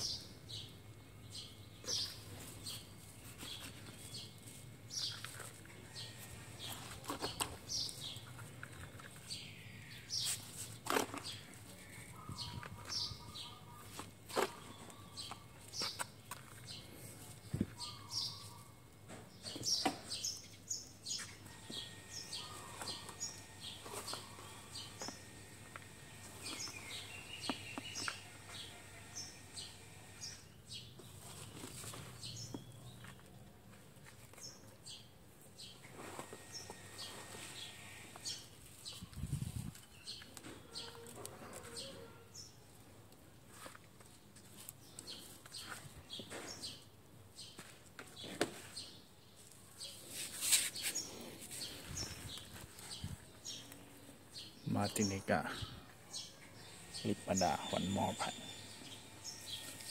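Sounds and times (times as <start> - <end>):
potting mix crunching and scraping: 0.0 - 30.2, 30.9 - 59.9
birds chirping: 0.0 - 59.9.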